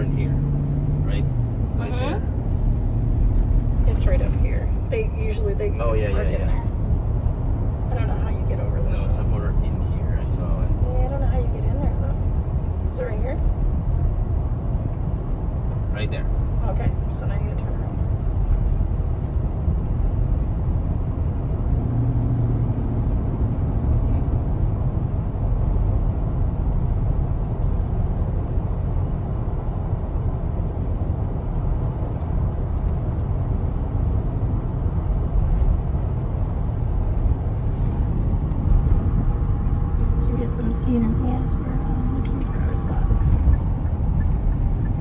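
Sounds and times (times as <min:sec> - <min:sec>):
truck engine and road rumble: 0:00.0 - 0:45.0.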